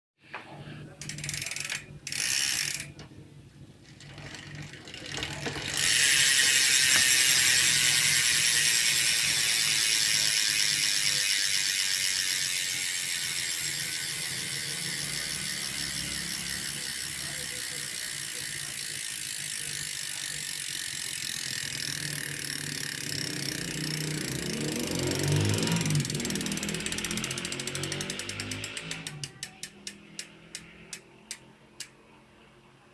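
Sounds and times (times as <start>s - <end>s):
bicycle hub ratcheting buzz: 1.0s - 3.0s, 3.9s - 31.9s.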